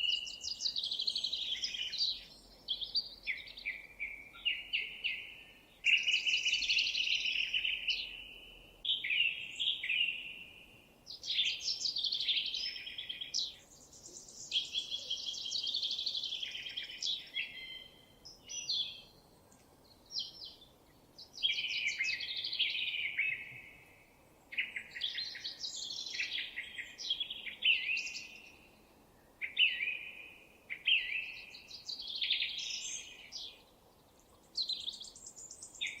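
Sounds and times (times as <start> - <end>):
songbird chirping and trilling: 0.0 - 36.0.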